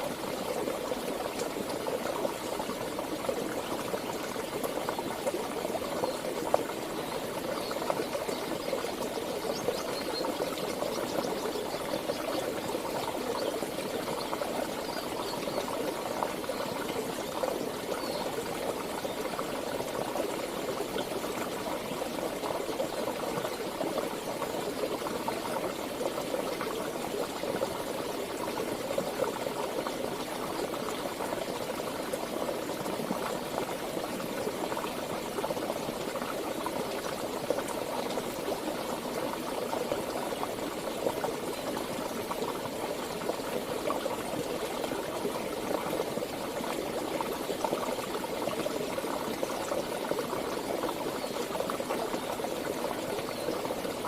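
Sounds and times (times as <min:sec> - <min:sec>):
stream water burbling: 0:00.0 - 0:54.0.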